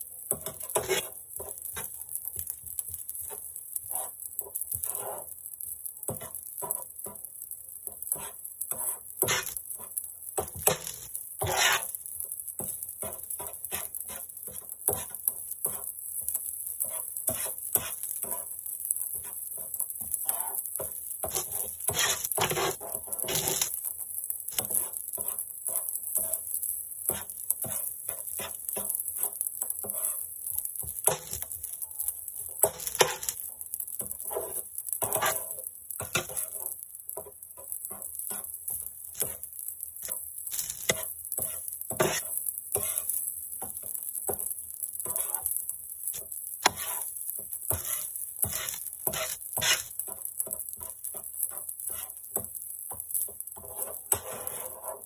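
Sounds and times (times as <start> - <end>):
metal spatula scraping griddle: 0.3 - 55.0.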